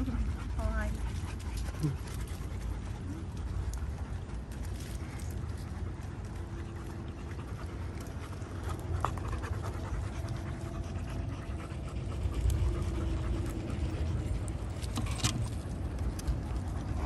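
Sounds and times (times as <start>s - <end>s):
dogs panting: 0.0s - 17.0s
steady low rumble: 0.0s - 17.0s.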